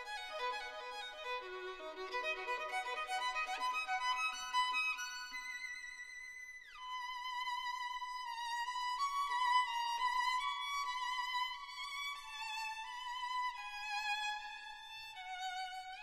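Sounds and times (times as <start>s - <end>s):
solo violin slow melody: 0.0s - 16.0s.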